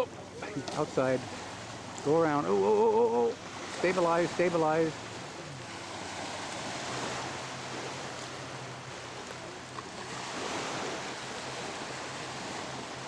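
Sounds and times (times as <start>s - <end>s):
distant model plane engine hum: 0.0s - 13.0s.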